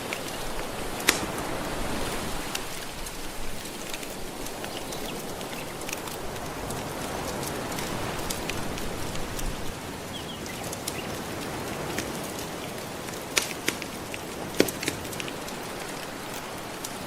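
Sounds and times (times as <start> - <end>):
gentle ocean waves: 0.0 - 17.0
wood fire crackling: 0.0 - 17.0.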